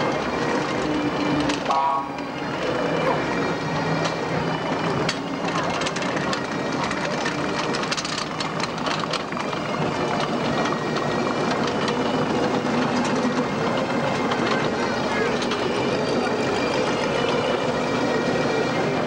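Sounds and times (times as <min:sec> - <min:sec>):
steel tracks clanking on road: 0:00.0 - 0:19.0
tracked vehicle engine running: 0:00.0 - 0:19.0.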